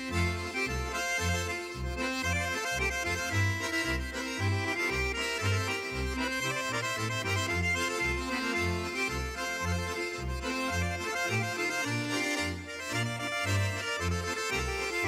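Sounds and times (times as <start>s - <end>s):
button accordions playing melody: 0.0s - 15.0s
double bass low notes: 0.0s - 15.0s.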